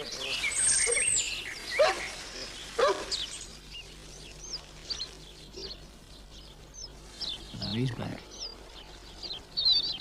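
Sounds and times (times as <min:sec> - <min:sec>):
bird calls: 0:00.0 - 0:10.0.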